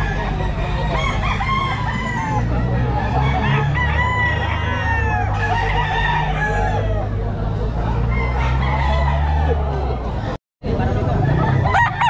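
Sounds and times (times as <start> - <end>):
roosters crowing: 0.0 - 10.2, 11.1 - 12.0.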